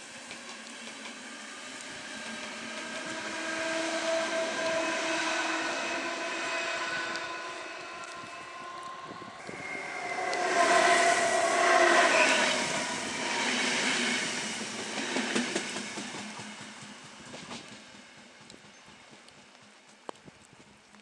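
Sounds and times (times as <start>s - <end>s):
train whine: 0.0s - 20.1s
rumbling rail noise: 0.0s - 21.0s.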